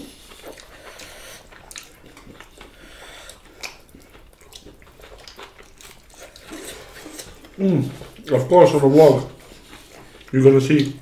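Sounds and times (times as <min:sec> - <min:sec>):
chewing and wet mouth sounds: 0:00.0 - 0:11.0.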